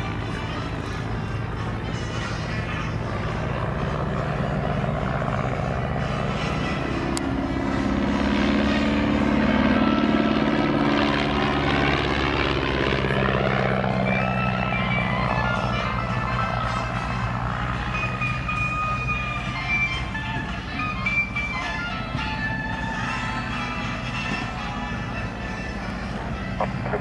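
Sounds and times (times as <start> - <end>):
propeller plane flying overhead: 0.0 - 27.0.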